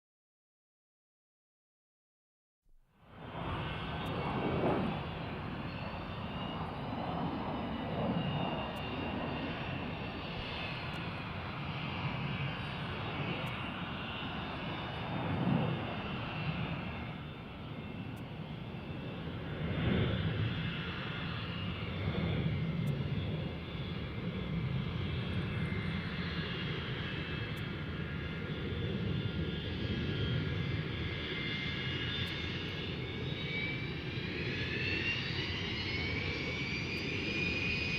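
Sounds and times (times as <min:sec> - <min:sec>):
aircraft engines roaring and whining: 0:02.9 - 0:37.9.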